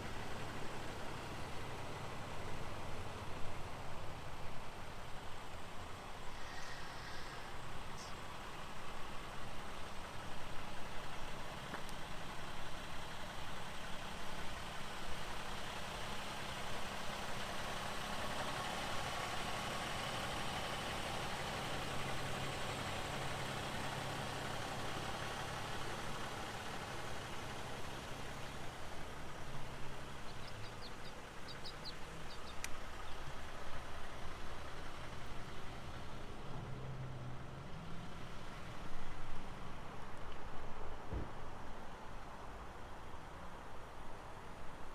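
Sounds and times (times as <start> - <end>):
vehicle engine humming: 0.0 - 44.9.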